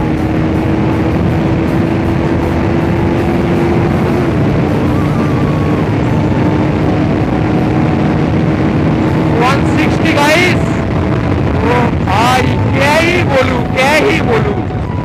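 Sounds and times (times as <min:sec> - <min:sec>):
motorcycle engine at high revs: 0:00.0 - 0:14.6
wind rush on microphone: 0:00.0 - 0:15.0.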